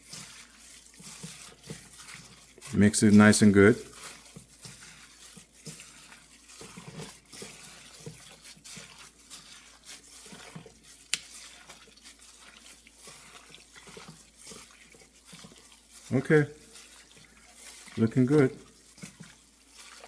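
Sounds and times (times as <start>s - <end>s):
hands squishing wet marinade: 0.0s - 20.0s.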